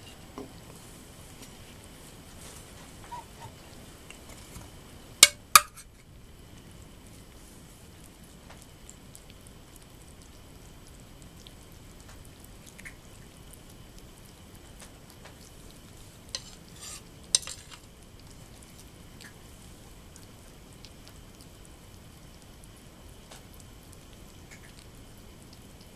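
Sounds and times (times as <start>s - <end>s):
kittens crunching and licking food: 0.1s - 25.9s.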